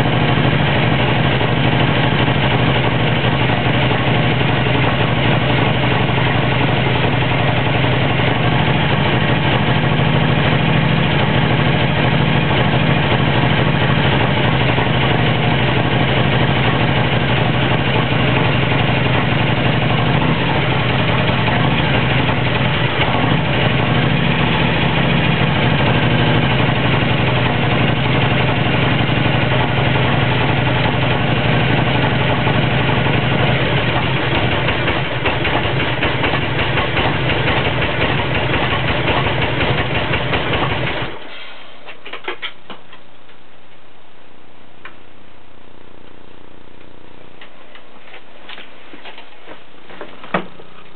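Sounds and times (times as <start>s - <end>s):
motorcycle engine idling: 0.0s - 41.3s.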